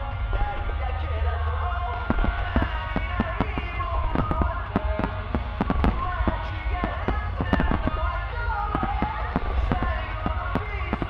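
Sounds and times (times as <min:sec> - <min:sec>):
deep rumble: 0:00.0 - 0:11.0
music playing: 0:00.0 - 0:11.0
firework shells bursting: 0:02.0 - 0:11.0.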